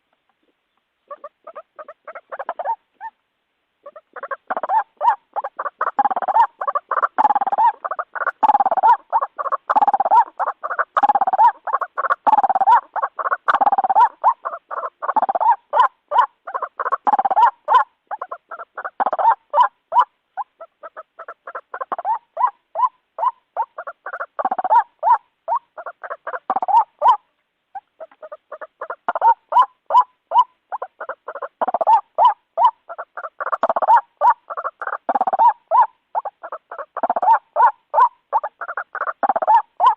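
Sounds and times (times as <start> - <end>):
waterhen calling: 0.0 - 3.2, 3.8 - 39.9.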